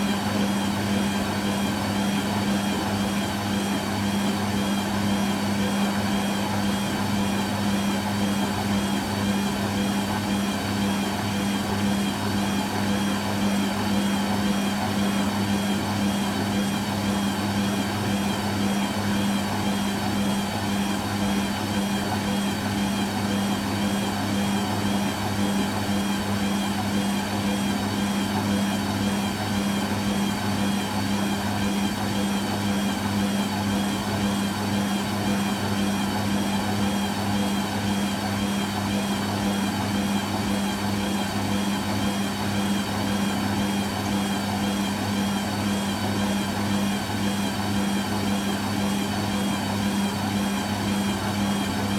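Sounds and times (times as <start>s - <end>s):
washing machine motor hum: 0.0s - 51.9s.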